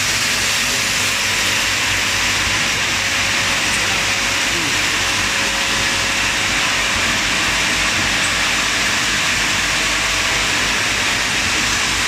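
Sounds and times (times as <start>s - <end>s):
machine whirring steadily: 0.0s - 12.0s.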